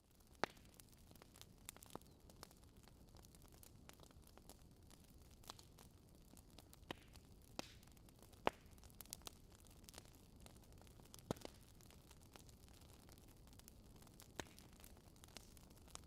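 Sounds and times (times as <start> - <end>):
burning logs crackling: 0.0 - 16.0.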